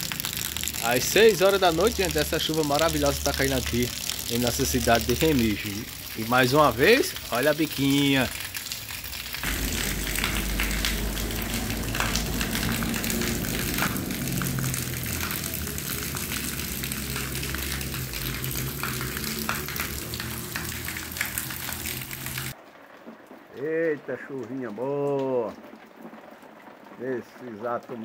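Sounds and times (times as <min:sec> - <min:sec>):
heavy rain pouring: 0:00.0 - 0:28.0
raindrops ticking: 0:00.0 - 0:28.0.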